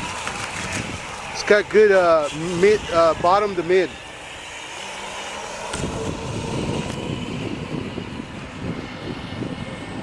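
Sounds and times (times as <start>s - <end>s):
rc boat motor whine: 0.0s - 10.0s
wind buffeting microphone: 0.0s - 10.0s.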